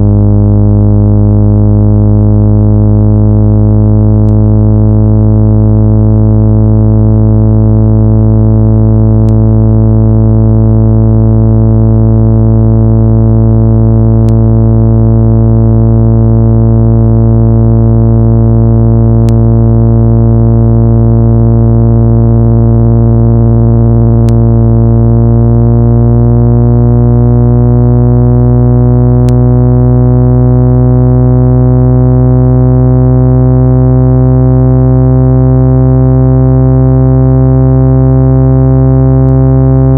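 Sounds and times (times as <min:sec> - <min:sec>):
loud low electronic hum: 0:00.0 - 0:39.9.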